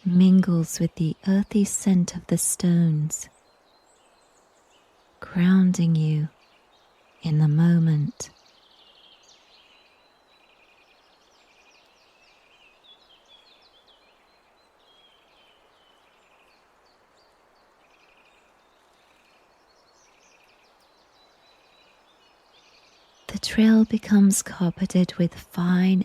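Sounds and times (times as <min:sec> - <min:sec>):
faint birdsong chirps and trills: 0:00.0 - 0:26.0
soft steady hiss: 0:00.0 - 0:26.0.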